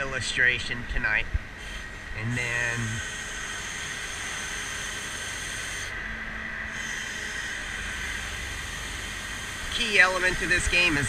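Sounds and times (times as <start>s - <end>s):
high whine over hiss: 0.0s - 11.0s
low hum: 0.0s - 11.0s
truck engine and hydraulics running: 0.0s - 11.0s.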